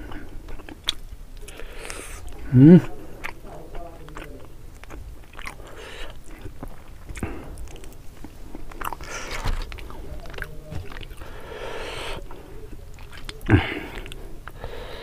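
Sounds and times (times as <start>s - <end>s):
chewing and biting: 0.0s - 15.0s.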